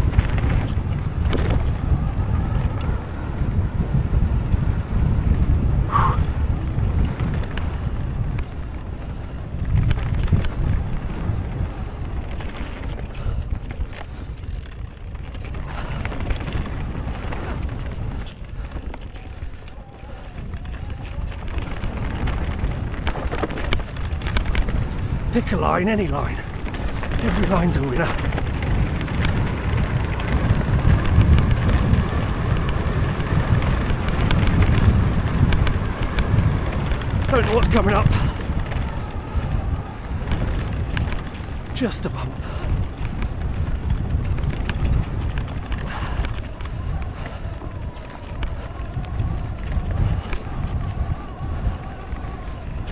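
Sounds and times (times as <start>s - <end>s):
bike clicks and knocks: 0.0s - 3.4s, 6.6s - 52.9s
bike tyre rumble on dirt: 0.0s - 52.9s
wind rushing over microphone: 0.0s - 52.9s.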